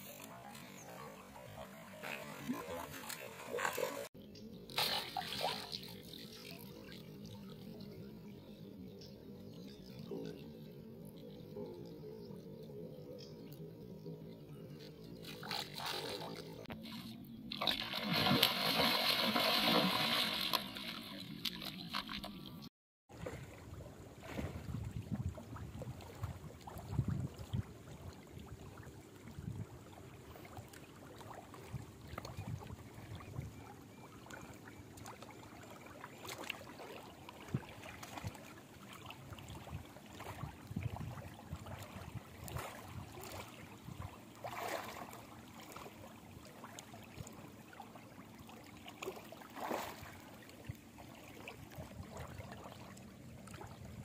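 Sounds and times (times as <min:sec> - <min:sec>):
water splashes: 0:00.0 - 0:04.1, 0:04.7 - 0:07.7, 0:15.2 - 0:54.0
river water lapping and sloshing: 0:00.0 - 0:54.0.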